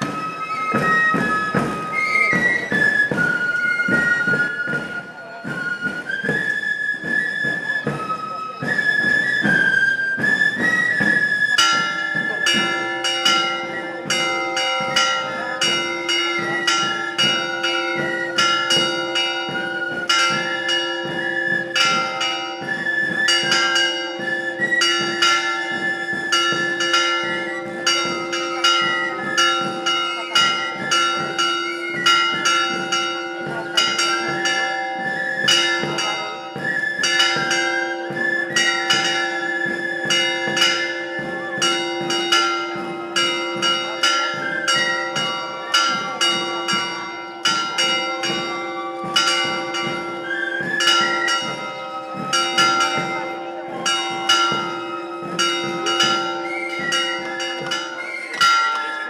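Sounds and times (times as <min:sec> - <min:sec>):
church bells ringing a peal: 0:11.5 - 0:59.0.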